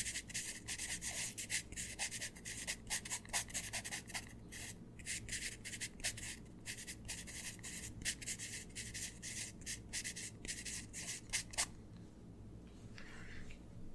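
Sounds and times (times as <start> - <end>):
pencil scratching on paper: 0.0 - 11.7.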